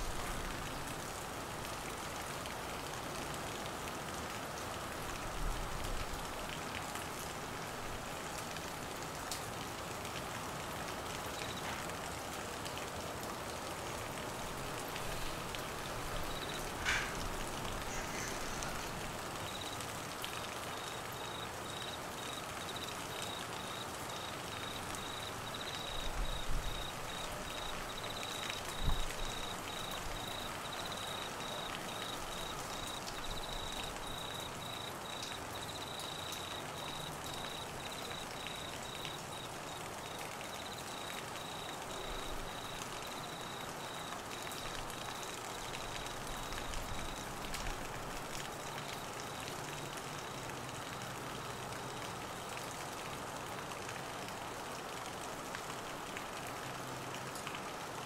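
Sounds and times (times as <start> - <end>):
rain falling on trees: 0.0 - 58.0.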